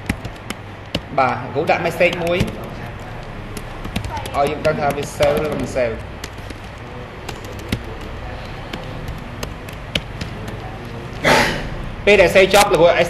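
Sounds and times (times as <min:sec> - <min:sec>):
keyboard typing clicks: 0:00.0 - 0:01.1, 0:01.7 - 0:11.2
steady low hum: 0:00.0 - 0:13.0.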